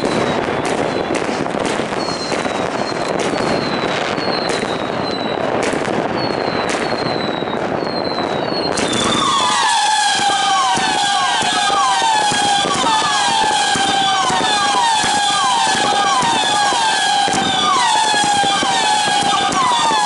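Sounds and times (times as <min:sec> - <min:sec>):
fireworks crackling and bangs: 0:00.0 - 0:20.0
fireworks whistles falling in pitch: 0:00.0 - 0:20.0.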